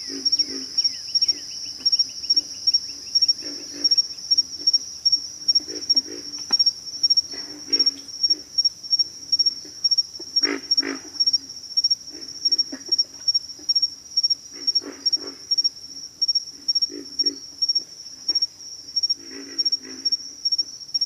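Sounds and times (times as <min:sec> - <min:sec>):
frogs grunting: 0:00.0 - 0:20.6
high-pitched insect chorus: 0:00.0 - 0:21.0.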